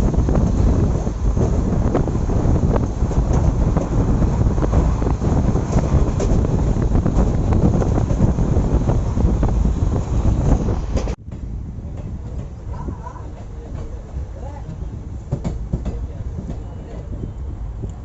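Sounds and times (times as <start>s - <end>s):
train rumbling at speed: 0.0s - 18.0s
wind buffeting microphone: 0.0s - 18.0s.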